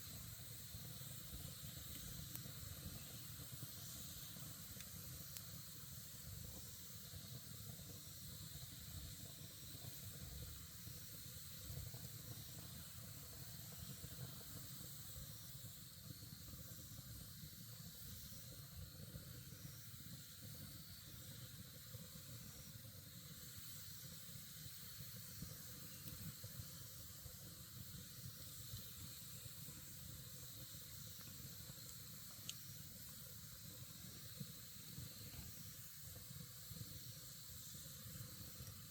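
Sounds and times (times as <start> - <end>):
campfire crackling: 0.0 - 38.9
fire pop: 0.0 - 38.9.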